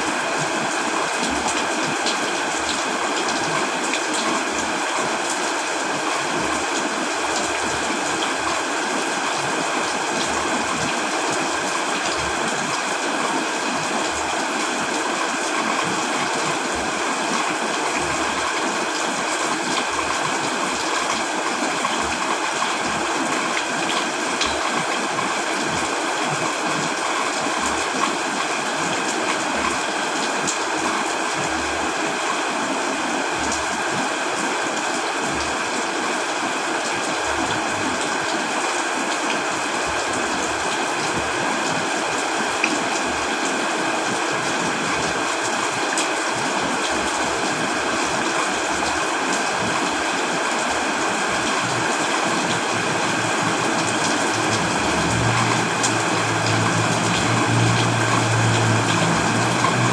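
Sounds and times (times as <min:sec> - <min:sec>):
steady rain: 0:00.0 - 0:59.9
stream water running: 0:00.0 - 0:59.9.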